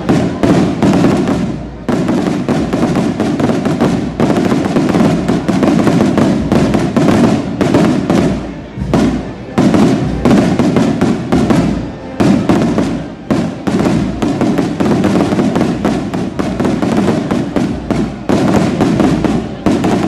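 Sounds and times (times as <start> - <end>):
fireworks bursting and crackling: 0.0 - 20.0
sharp loud firework reports: 0.0 - 20.0.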